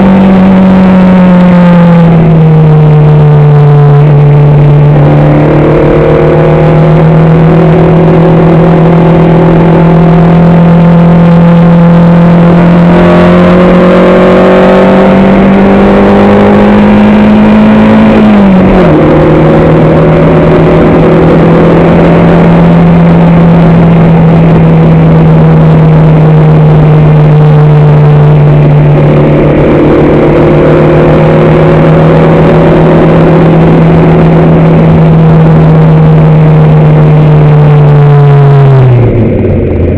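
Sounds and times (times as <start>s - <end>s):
racing engine running hard: 0.0s - 39.9s.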